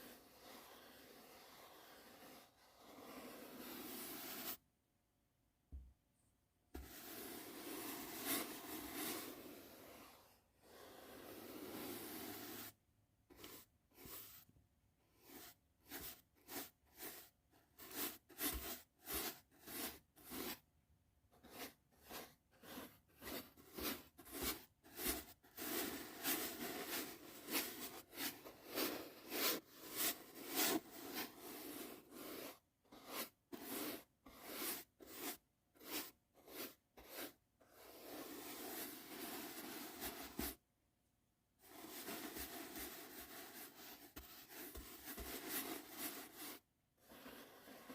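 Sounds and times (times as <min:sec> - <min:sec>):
soft brush strokes: 0:00.0 - 0:04.6, 0:06.8 - 0:20.6, 0:21.3 - 0:40.6, 0:41.6 - 0:47.9.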